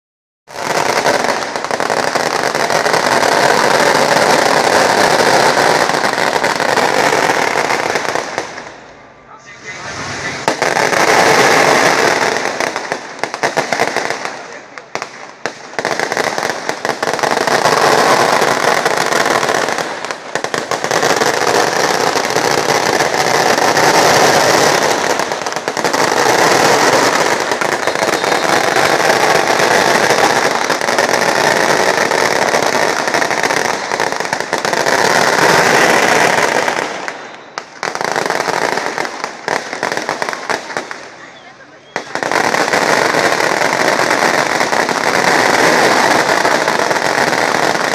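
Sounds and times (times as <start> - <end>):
firecrackers crackling: 0.5 - 47.9.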